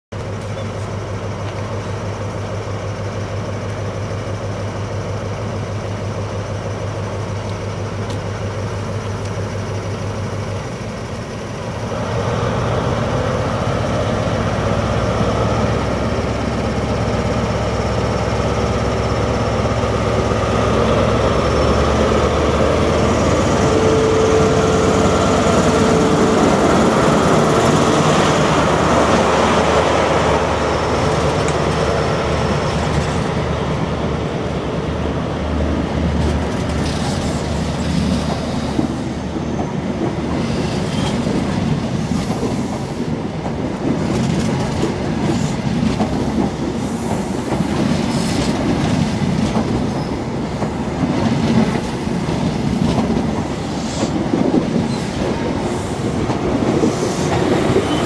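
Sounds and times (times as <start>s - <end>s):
train diesel engine idling and revving: 0.1s - 58.0s.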